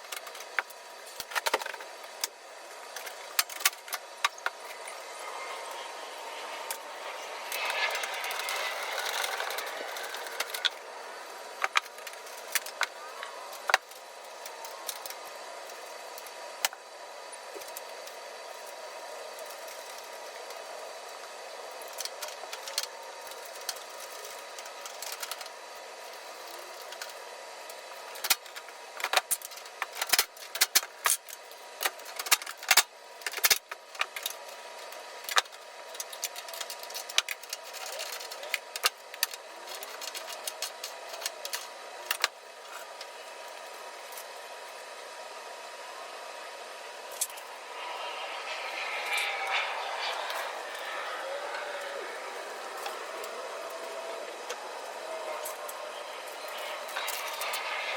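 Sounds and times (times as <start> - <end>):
background hum: 0.0 - 57.9.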